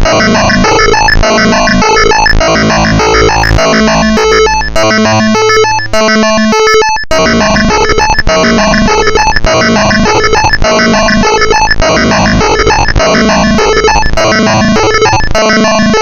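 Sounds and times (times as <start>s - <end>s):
harsh electronic noise music: 0.0s - 16.0s.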